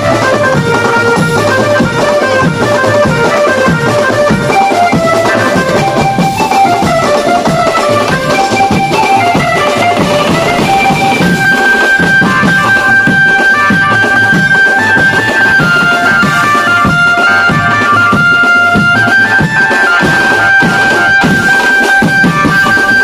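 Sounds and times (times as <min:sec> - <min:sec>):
amplified banjo melody: 0:00.0 - 0:23.0
drums beaten with sticks: 0:00.0 - 0:23.0.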